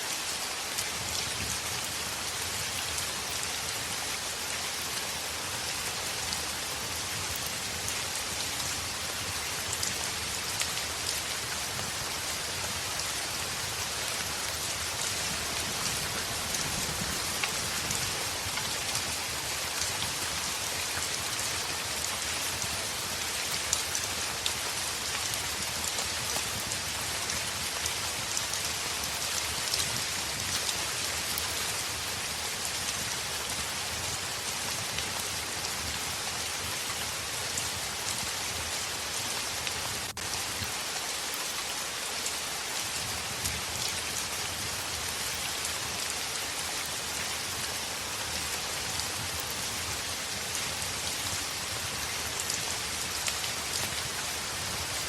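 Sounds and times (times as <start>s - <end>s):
heavy rain on a window: 0.1s - 55.0s.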